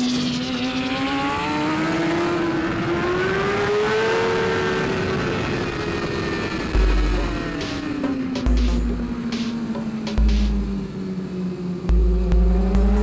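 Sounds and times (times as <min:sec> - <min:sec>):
racing motorcycle engine revving: 0:00.0 - 0:11.0, 0:11.8 - 0:13.0.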